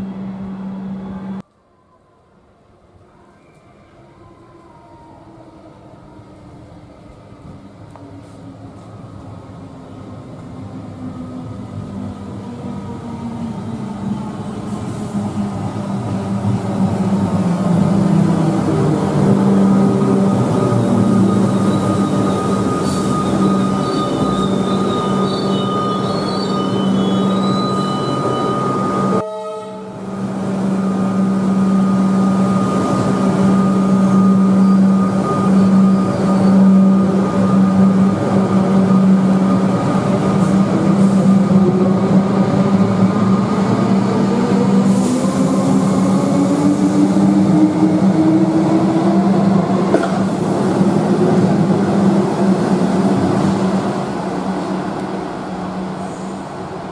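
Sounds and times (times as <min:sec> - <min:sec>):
electric train humming: 0:00.0 - 0:01.4, 0:08.7 - 0:56.9.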